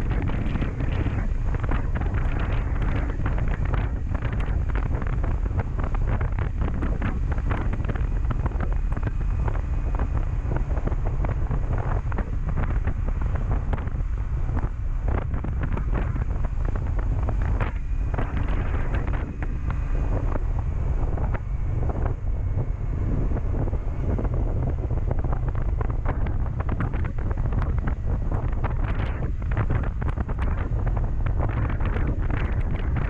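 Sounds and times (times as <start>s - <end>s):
motorcycle engine cruising: 0.0s - 33.0s
wind buffeting microphone: 0.0s - 33.0s.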